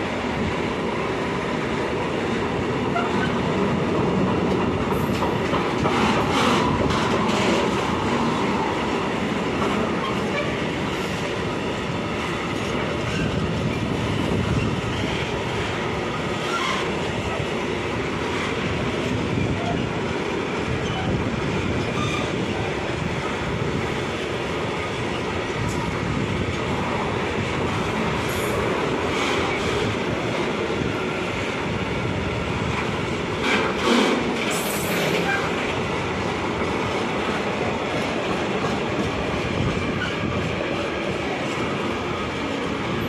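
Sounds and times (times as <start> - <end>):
freight train wheels clattering: 1.4 - 31.8, 32.6 - 43.0.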